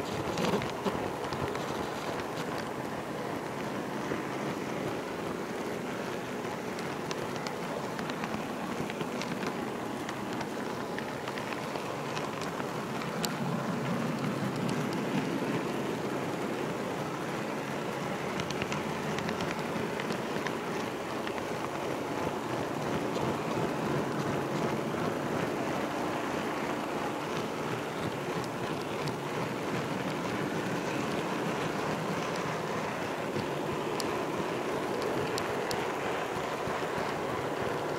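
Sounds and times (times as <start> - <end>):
model train wheels rumbling on rails: 0.0 - 37.9.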